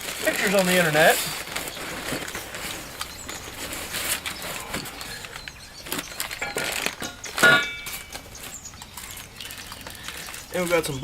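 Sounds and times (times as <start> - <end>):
cardboard packaging rustling: 0.0 - 11.0.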